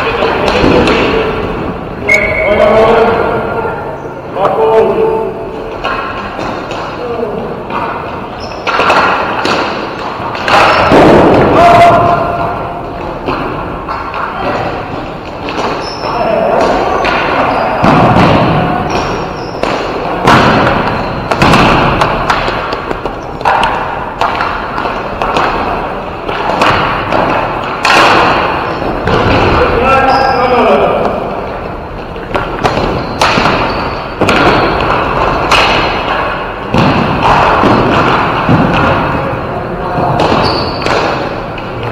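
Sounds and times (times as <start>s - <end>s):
sticks and ball hitting boards: 0.0s - 2.3s, 5.6s - 41.9s.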